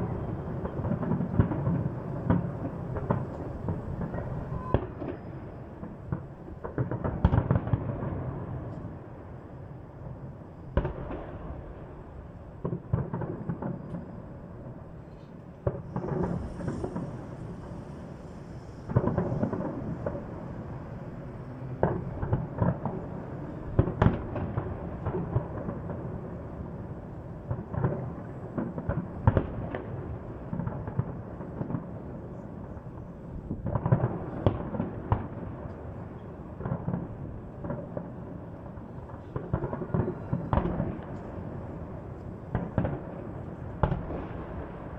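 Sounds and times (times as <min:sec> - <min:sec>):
continuous rumble: 0:00.0 - 0:44.9
fireworks booms and cracks: 0:00.0 - 0:44.9.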